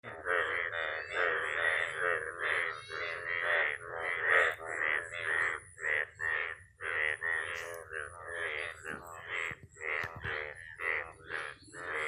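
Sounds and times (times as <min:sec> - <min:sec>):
frogs croaking in chorus: 0:00.0 - 0:12.0.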